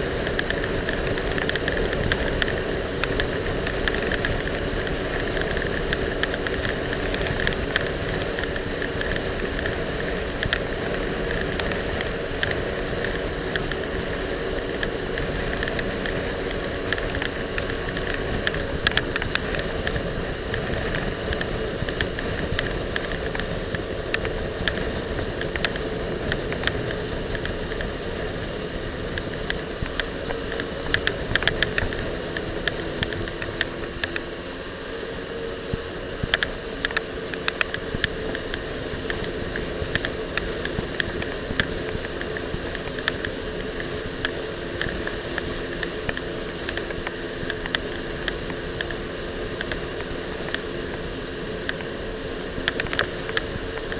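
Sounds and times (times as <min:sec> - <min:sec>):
jet ski engine running: 0:00.0 - 0:53.9
wind: 0:00.0 - 0:53.9.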